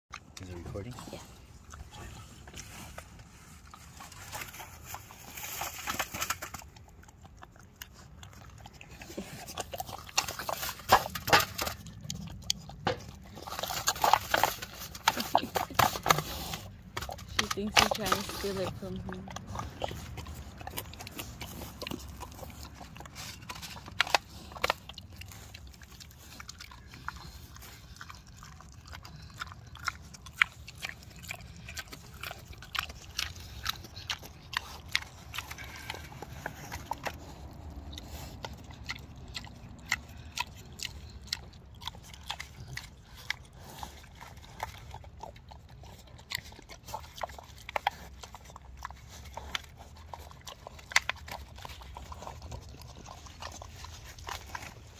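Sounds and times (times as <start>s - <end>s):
pig chewing: 0.1s - 54.9s.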